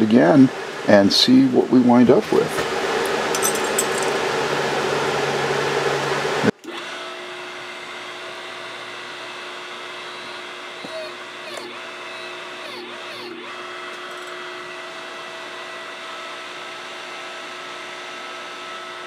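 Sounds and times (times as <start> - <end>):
hydraulic pump motor droning: 2.1 - 19.0.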